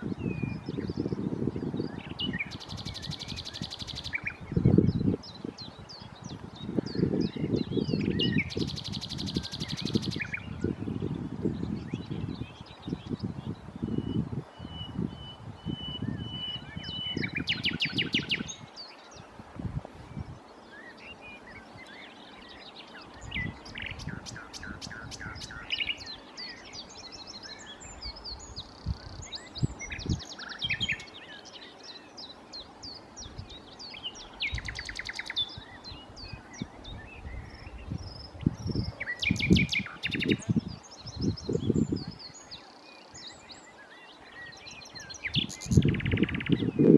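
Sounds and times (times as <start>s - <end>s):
nightingale singing: 0.0s - 19.3s, 20.0s - 46.9s.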